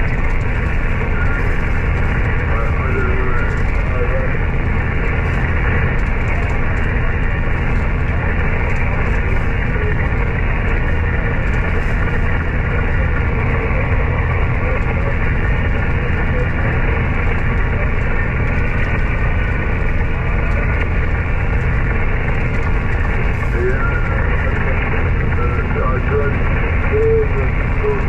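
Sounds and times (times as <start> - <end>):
radio static hiss and rumble: 0.0 - 28.0.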